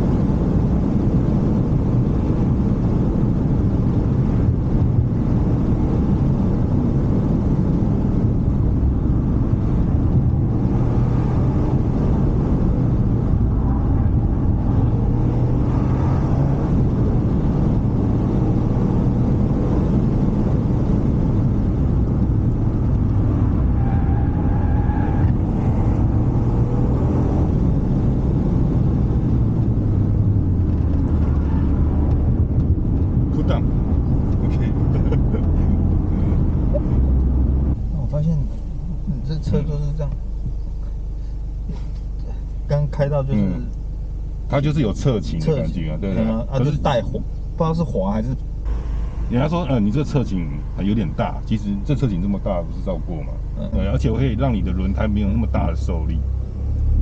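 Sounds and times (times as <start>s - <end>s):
car engine and road rumble: 0.0s - 57.0s
faint engine tones: 8.1s - 57.0s.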